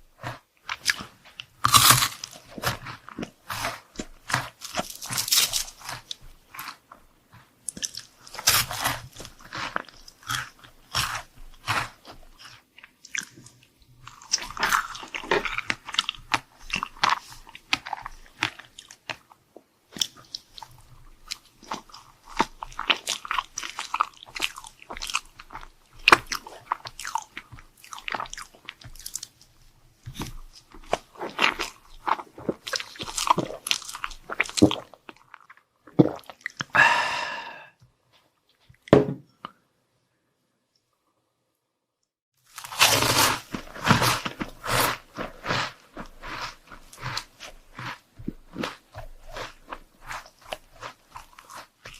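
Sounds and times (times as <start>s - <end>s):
crisp bites and crunchy chewing: 0.1s - 7.0s, 7.6s - 37.2s, 42.4s - 51.9s.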